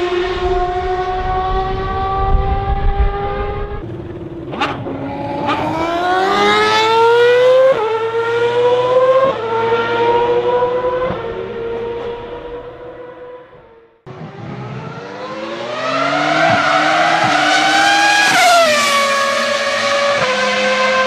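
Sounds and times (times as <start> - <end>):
racing car engine at high revs: 0.0 - 21.0.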